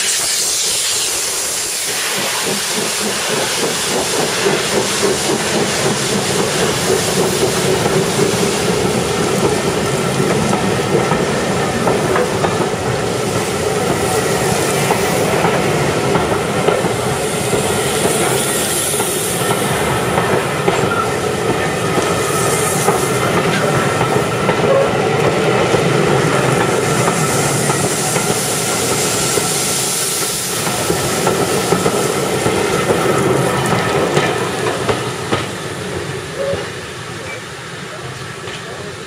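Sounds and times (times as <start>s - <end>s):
train wheels clattering over rail joints: 1.8s - 37.4s, 38.4s - 38.9s.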